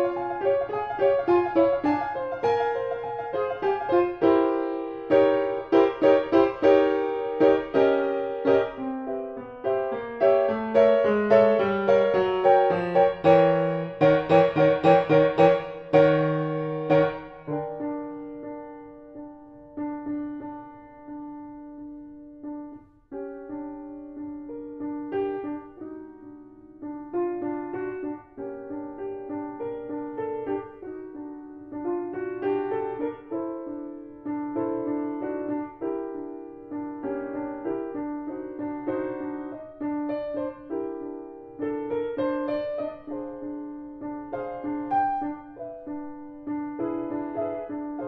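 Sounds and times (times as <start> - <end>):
lively grand piano: 0.0 - 48.0.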